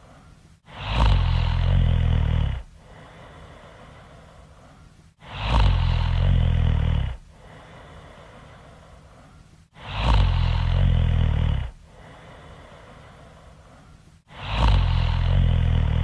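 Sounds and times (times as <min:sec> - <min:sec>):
faint breathy hiss: 0:00.0 - 0:16.0
person snoring: 0:00.0 - 0:16.0.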